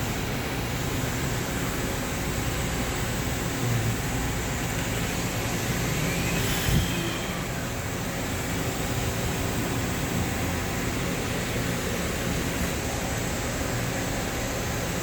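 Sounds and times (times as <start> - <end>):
machine shop hiss and hum: 0.0 - 15.0.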